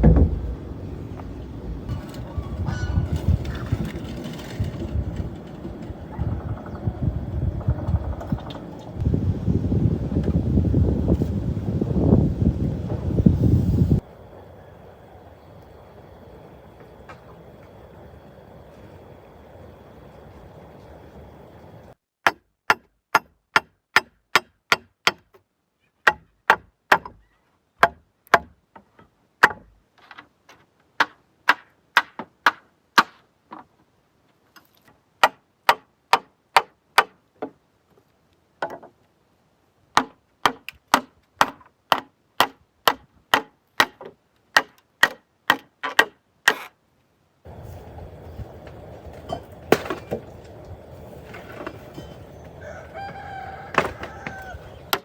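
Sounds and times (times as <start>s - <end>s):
outdoor background: 0.0s - 55.0s.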